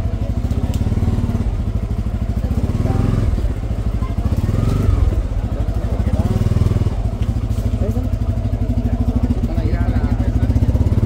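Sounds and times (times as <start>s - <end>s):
crowd chatter: 0.0s - 11.0s
motorcycle engine at low speed: 0.0s - 11.0s.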